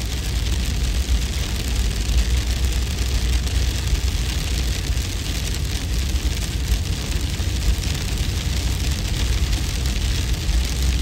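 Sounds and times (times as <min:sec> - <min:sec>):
deep wind rumble: 0:00.0 - 0:11.0
fine patter of falling hail: 0:00.0 - 0:11.0.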